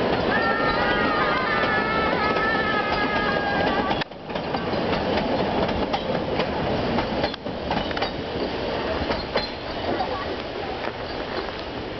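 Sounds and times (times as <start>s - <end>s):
train wheels clattering on bridge: 0.0s - 11.6s
train rumble: 0.0s - 11.9s.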